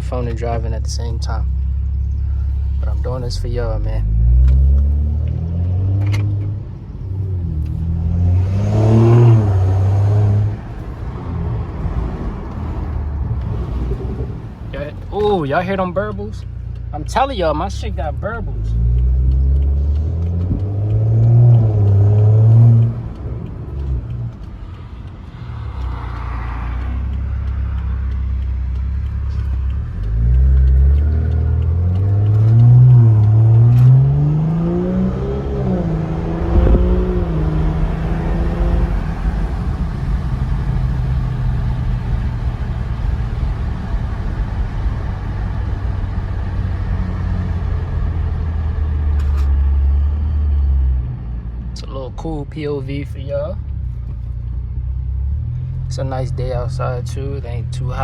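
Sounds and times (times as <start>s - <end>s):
car engine accelerating: 0.0s - 58.0s
road and wind noise: 0.0s - 58.0s.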